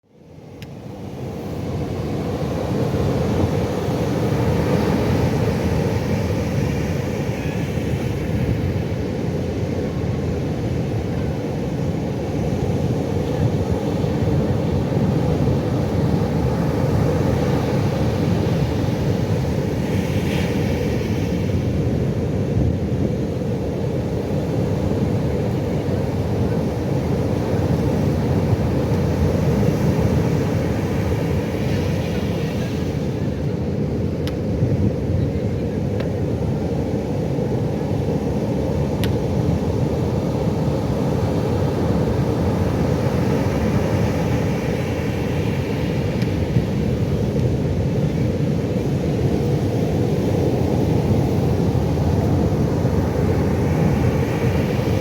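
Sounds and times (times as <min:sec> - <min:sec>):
ocean surf roar: 0:00.4 - 0:55.0.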